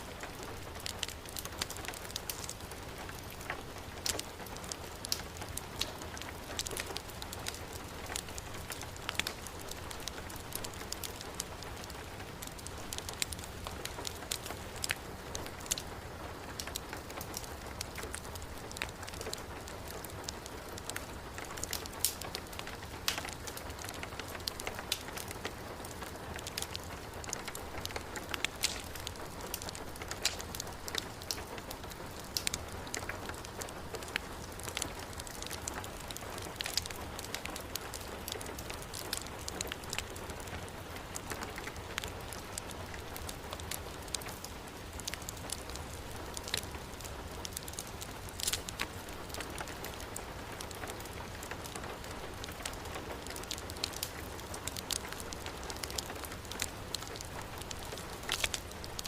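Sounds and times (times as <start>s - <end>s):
fireplace fire crackling: 0.0s - 59.0s
heavy rain: 0.0s - 59.0s.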